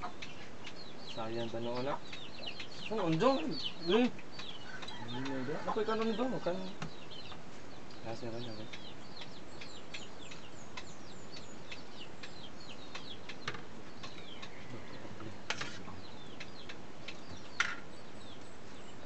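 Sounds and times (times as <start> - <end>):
birds peeping: 0.0 - 19.0.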